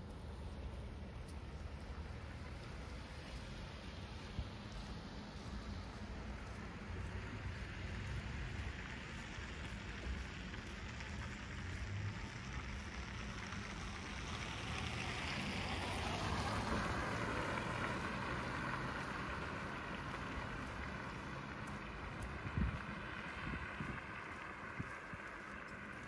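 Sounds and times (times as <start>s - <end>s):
low traffic rumble: 0.0s - 26.0s
vehicle passing with tyre hiss: 0.2s - 26.0s.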